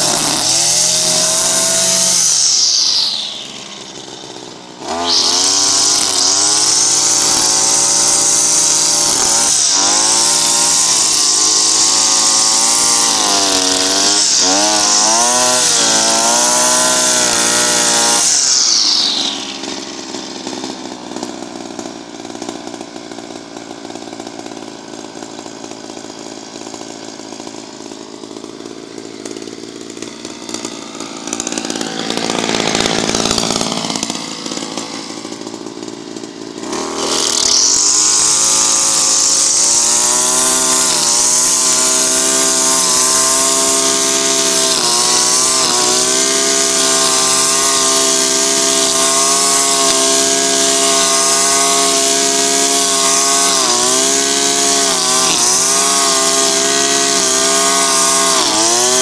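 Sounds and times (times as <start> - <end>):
brushcutter engine running: 0.0 - 59.0
trimmer line cutting grass: 0.0 - 59.0.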